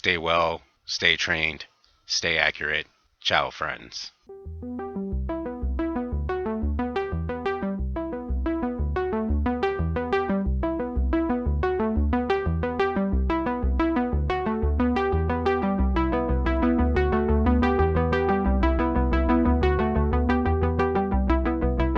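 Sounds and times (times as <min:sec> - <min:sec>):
electronic synthesizer music: 0:04.3 - 0:21.9
steady low beat: 0:04.3 - 0:21.9.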